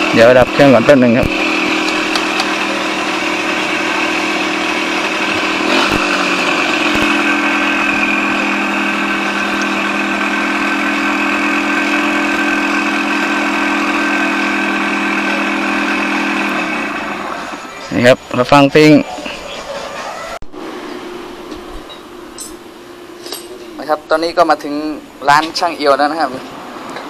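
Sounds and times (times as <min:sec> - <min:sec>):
vehicle engine idling: 0:00.0 - 0:19.9, 0:20.6 - 0:27.0.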